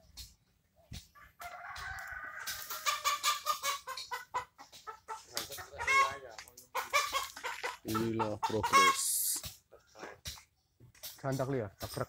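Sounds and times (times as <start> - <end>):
chicken clucking: 0.0 - 10.8.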